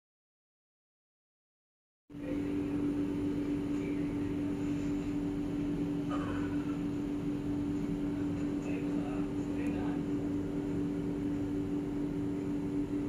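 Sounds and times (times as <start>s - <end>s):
machine hum: 2.1s - 13.0s.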